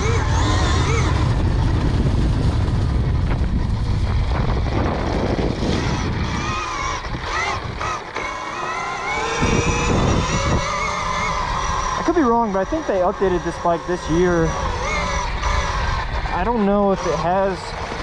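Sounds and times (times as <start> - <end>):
electric dirt bike motor whining: 0.0 - 18.0
wind rumble on microphone: 0.0 - 18.0.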